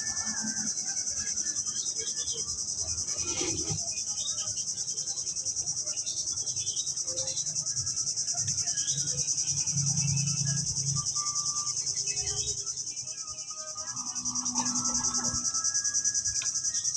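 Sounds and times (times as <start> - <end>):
faint bird chirps: 0.0 - 16.9
insects trilling: 0.0 - 16.9.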